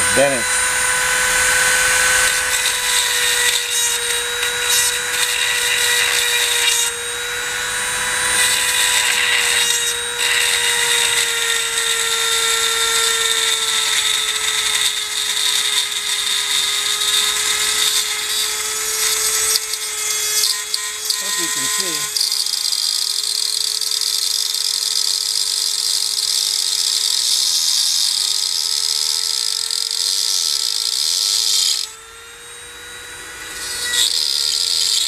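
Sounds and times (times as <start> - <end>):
rotary tool whining: 0.0 - 35.0
gritty grinding hiss: 1.7 - 7.1, 8.2 - 31.9, 33.4 - 35.0.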